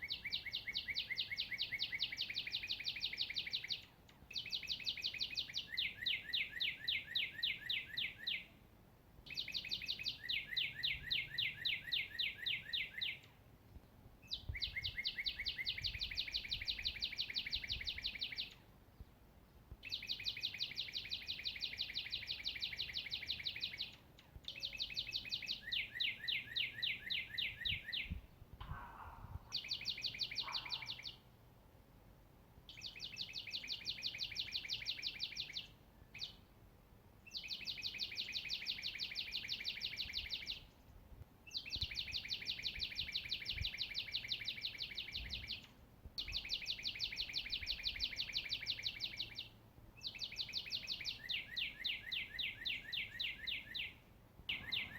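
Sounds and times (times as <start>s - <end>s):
songbird trilling: 0.0s - 8.5s, 9.2s - 13.3s, 14.2s - 18.6s, 19.8s - 31.2s, 32.7s - 36.4s, 37.3s - 40.7s, 41.5s - 54.9s.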